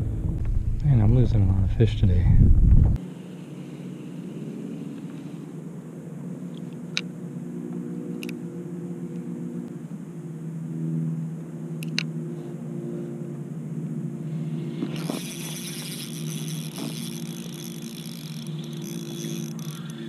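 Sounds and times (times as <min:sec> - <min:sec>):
boat engine droning: 0:02.9 - 0:20.0.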